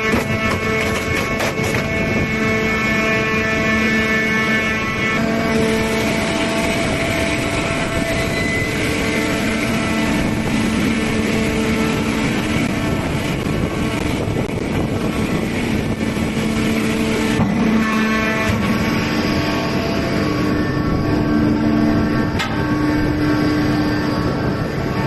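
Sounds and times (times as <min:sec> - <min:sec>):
hydraulic baler drone with whine: 0:00.0 - 0:25.0.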